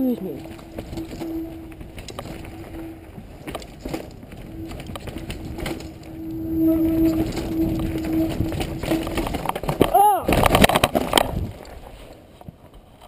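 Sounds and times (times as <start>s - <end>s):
freewheeling hub buzz: 0.0s - 11.8s
bike rattling and knocking: 0.0s - 13.0s.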